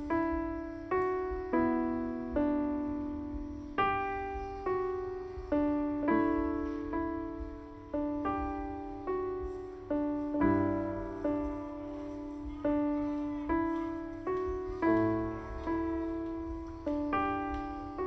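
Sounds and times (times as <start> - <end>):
gentle solo piano piece: 0.0 - 18.0.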